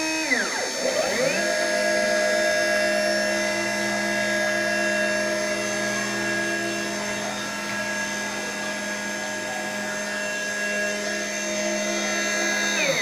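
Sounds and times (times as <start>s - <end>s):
cnc machine motor whine: 0.0s - 13.0s.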